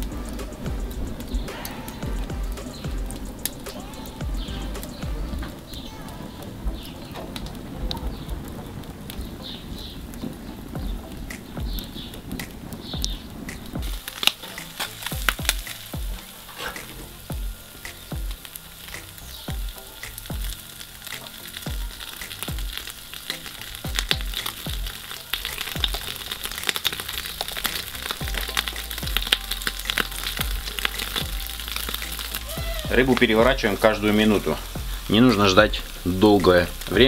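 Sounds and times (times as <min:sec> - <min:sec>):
fish sizzling over charcoal: 0:00.0 - 0:37.0
sharp pops and crackles: 0:00.0 - 0:37.0.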